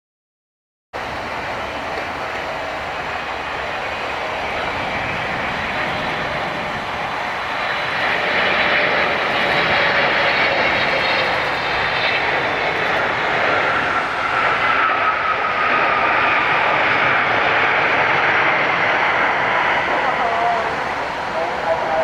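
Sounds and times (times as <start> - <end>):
jet engines running: 1.0 - 22.0.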